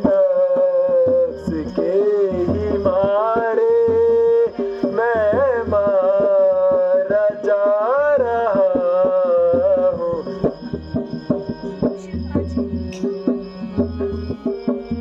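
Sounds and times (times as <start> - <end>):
harmonium: 0.0 - 15.0.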